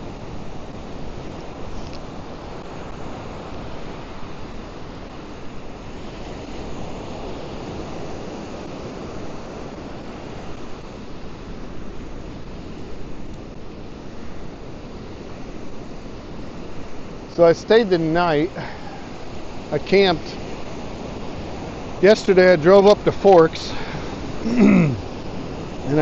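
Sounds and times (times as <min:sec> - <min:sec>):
surf breaking on beach: 0:00.0 - 0:26.0.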